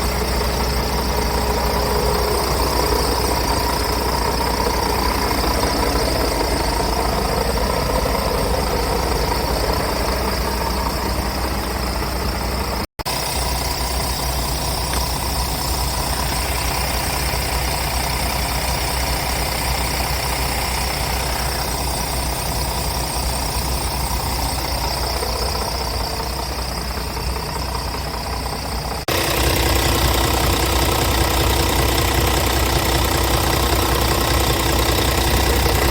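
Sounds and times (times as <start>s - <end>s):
diesel truck engine idling: 0.0s - 35.9s.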